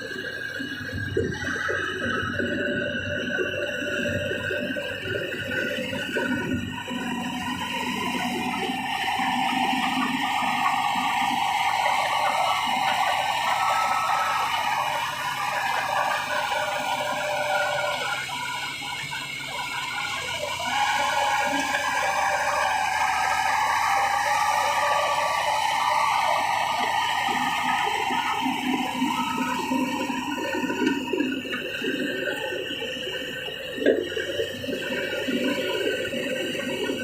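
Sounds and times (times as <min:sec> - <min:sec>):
bulldozer clatter and whine: 0:00.0 - 0:37.0.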